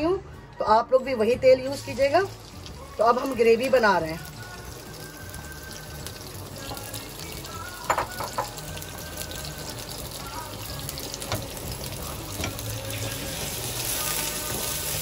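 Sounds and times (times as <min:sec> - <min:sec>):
onions sizzling in oil: 0:01.6 - 0:15.0.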